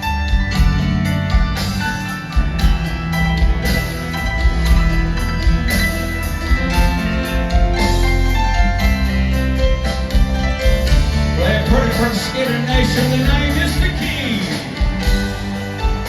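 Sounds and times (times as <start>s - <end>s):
live rock band playing: 0.0s - 16.0s
drum kit beat: 0.3s - 16.0s.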